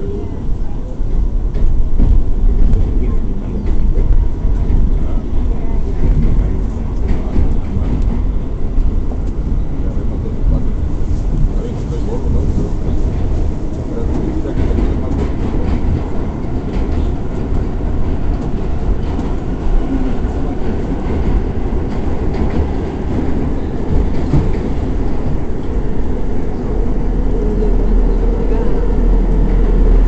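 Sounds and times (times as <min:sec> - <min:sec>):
subway wheels rumbling on rail: 0:00.0 - 0:30.0
track clatter: 0:00.0 - 0:30.0.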